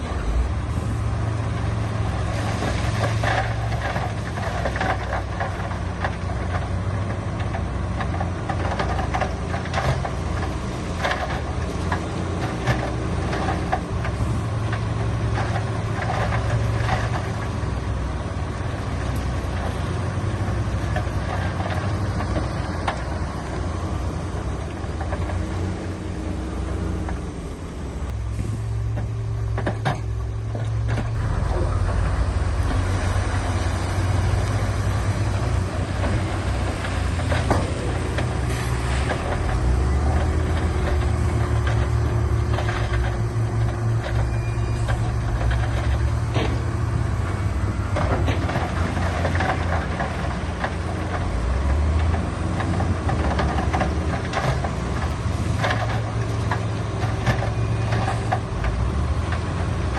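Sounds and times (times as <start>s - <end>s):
diesel machinery running: 0.0s - 59.9s.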